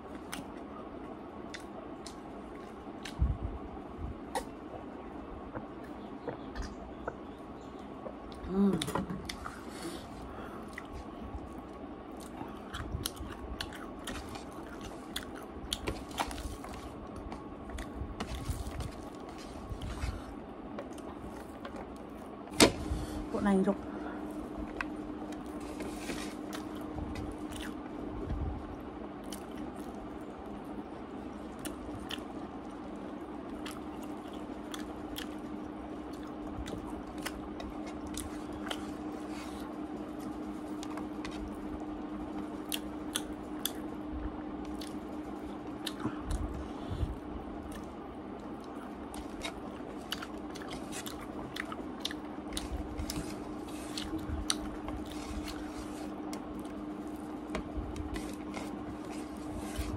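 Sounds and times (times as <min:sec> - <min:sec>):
steady low hum: 0:00.0 - 0:59.9
chewing and mouth smacks: 0:01.5 - 0:03.3, 0:04.2 - 0:09.7, 0:10.6 - 0:22.4, 0:24.6 - 0:27.9, 0:29.2 - 0:46.6, 0:47.6 - 0:59.9.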